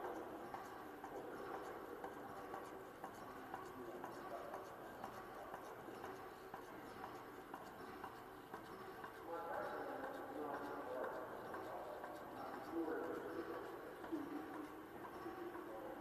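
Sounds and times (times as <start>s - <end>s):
murmur of voices: 0.0s - 16.0s.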